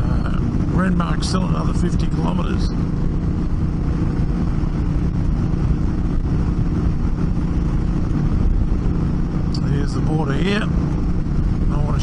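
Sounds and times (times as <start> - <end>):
motorcycle engine cruising: 0.0 - 12.0
wind rush on microphone: 0.0 - 12.0.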